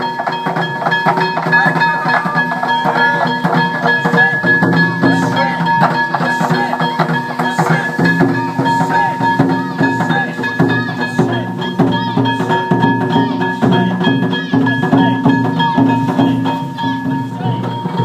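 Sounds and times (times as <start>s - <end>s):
drums and percussion: 0.0s - 18.0s
high ringing tone: 0.0s - 18.0s
pitched notes: 0.0s - 18.0s.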